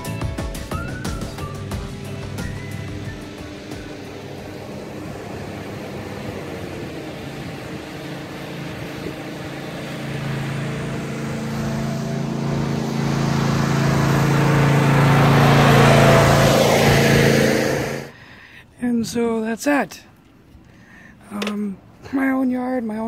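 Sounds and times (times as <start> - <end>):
riding mower engine: 0.0 - 18.3, 20.2 - 23.0.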